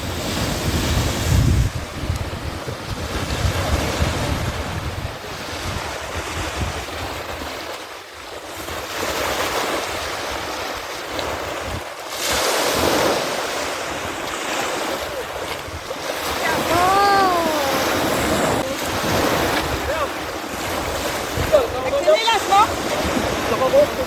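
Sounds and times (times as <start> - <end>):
wind buffeting microphone: 0.0 - 7.8, 8.4 - 24.0
rough sea splashing: 0.0 - 24.0.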